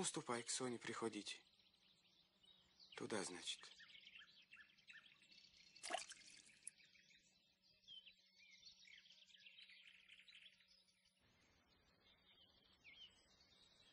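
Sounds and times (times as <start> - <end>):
faint birds chirping: 0.0 - 13.9.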